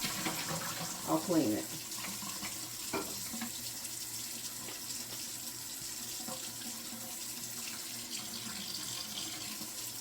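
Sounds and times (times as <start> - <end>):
water running from sink tap: 0.0 - 10.0.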